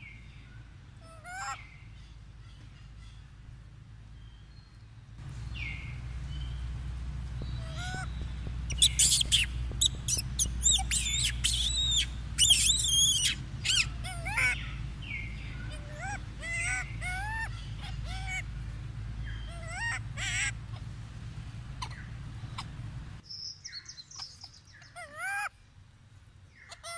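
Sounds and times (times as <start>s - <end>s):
steady low rumble: 0.0s - 24.8s
small birds chirping: 0.0s - 26.9s.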